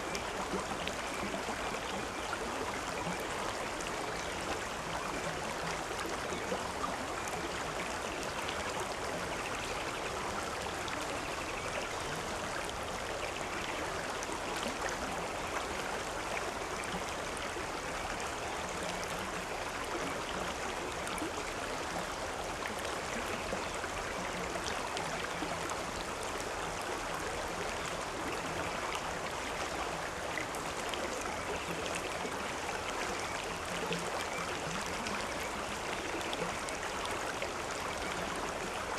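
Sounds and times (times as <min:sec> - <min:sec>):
stream water splashing over rocks: 0:00.0 - 0:38.9.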